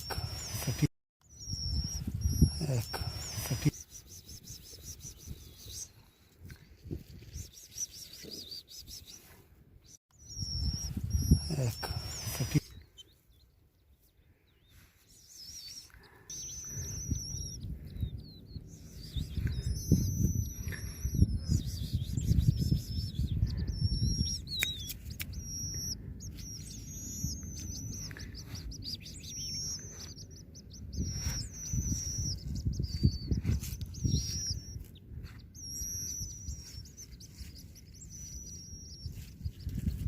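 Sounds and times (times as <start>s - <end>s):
nestling birds begging chirps: 0.0s - 40.0s.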